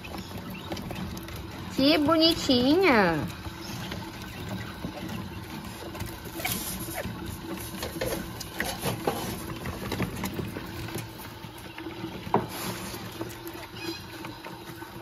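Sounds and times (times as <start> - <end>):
quail chirps: 0.0 - 14.6
quail pecking and scratching: 0.0 - 15.0.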